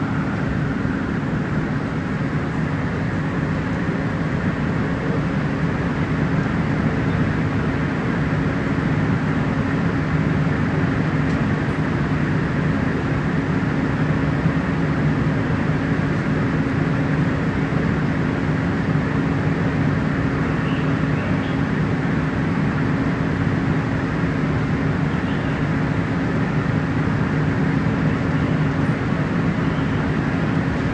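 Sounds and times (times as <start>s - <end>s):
fire engine running: 0.0s - 30.9s.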